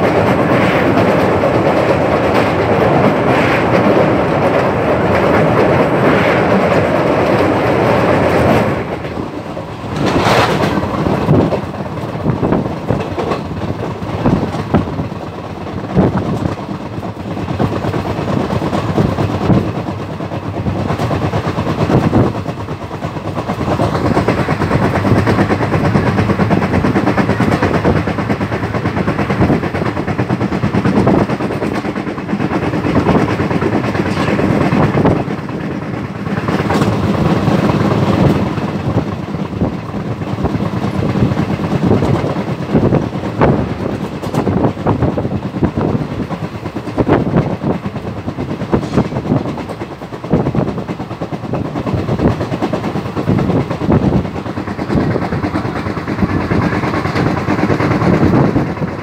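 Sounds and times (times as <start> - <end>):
train running at speed: 0.0 - 59.0
train wheels clacking over track: 0.0 - 59.0.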